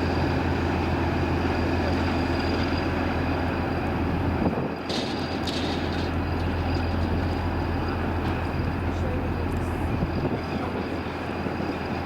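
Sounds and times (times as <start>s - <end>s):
faint high whine: 0.0s - 12.0s
train running: 0.0s - 12.0s.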